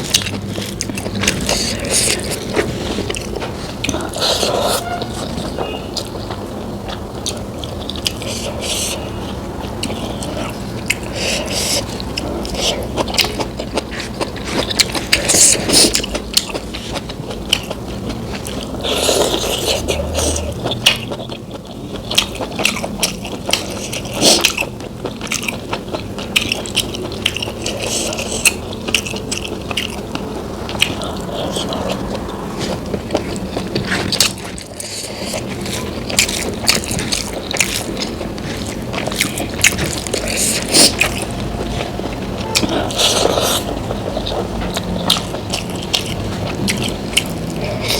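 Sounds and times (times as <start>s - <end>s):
person biting and chewing food: 0.0s - 47.9s.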